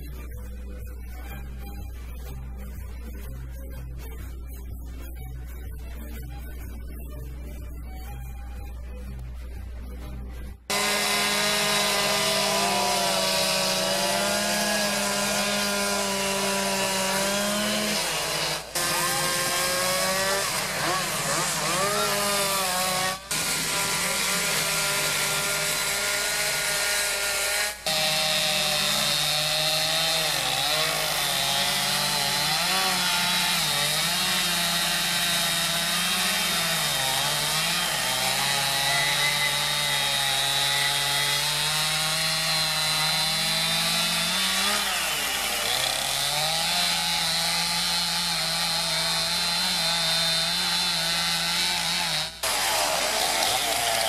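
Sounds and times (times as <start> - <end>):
chainsaws cutting wood: 10.7 - 54.0.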